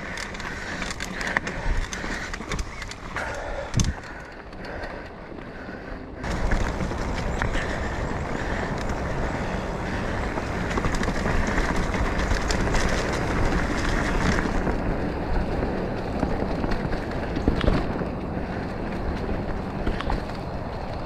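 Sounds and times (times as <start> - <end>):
bike rattling over bumps: 0.0 - 21.0
bike tyre and wind noise: 0.0 - 21.0.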